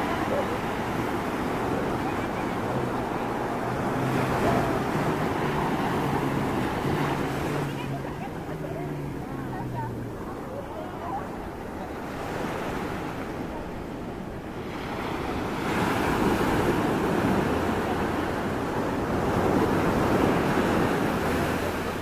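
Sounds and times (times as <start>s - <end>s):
small waves breaking on shore: 0.0s - 22.0s.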